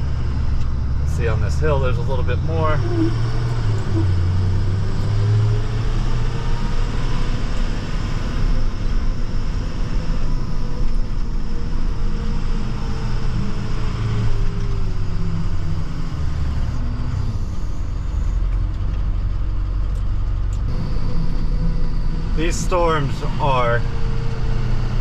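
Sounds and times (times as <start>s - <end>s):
faint whine dropping in pitch: 0.0s - 18.9s, 19.9s - 25.0s
truck engine and road rumble: 0.0s - 25.0s.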